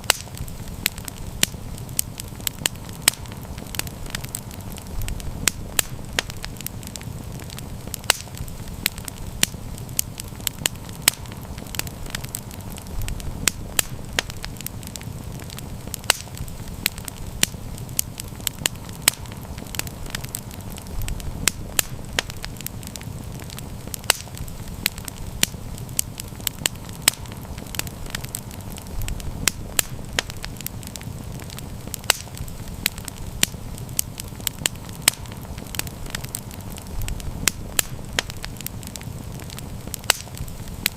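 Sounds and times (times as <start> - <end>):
campfire crackling and popping: 0.0 - 40.9
low rumble of flame: 0.0 - 40.9.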